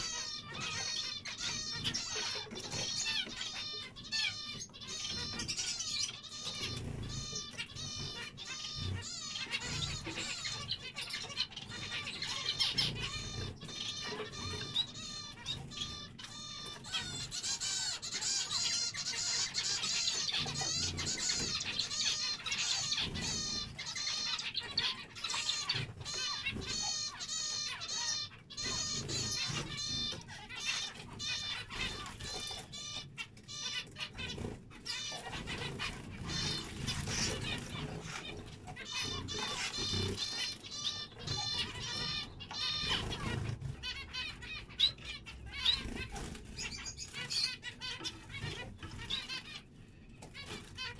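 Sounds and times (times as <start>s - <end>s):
zebra finches calling: 0.0s - 50.9s.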